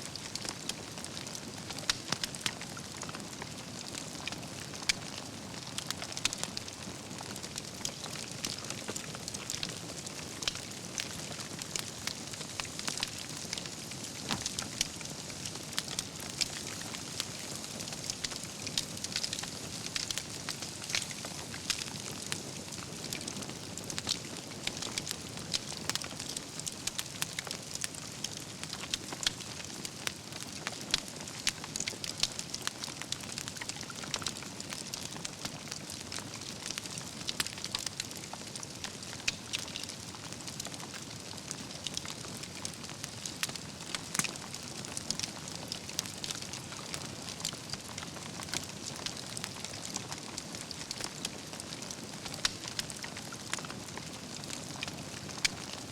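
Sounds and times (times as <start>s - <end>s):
campfire crackling and popping: 0.1s - 55.9s.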